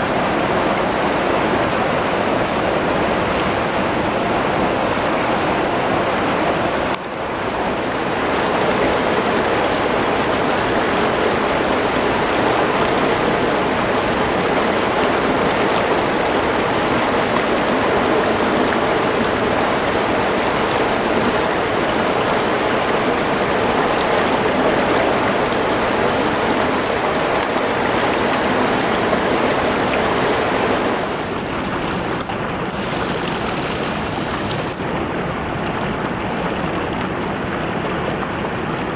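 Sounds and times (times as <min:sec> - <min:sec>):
fast-flowing river water: 0:00.0 - 0:38.9.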